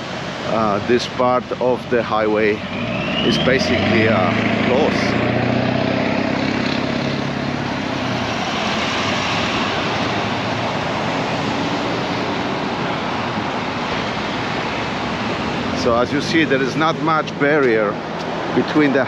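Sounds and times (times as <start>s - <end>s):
passing vehicle engine hum: 0.0s - 19.0s
tyres hissing on road: 0.0s - 19.0s.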